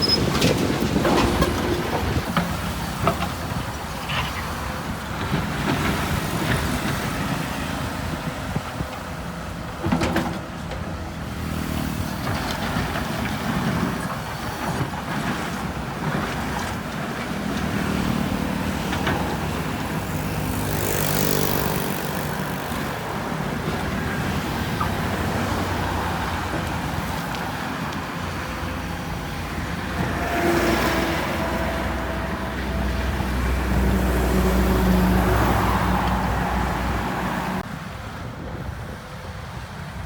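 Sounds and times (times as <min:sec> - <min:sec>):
heavy machinery diesel engines: 0:00.0 - 0:40.0.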